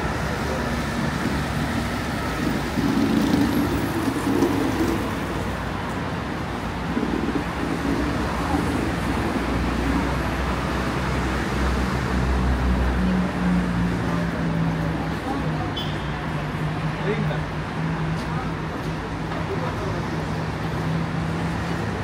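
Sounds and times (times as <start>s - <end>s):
cars driving past: 0.0s - 18.8s.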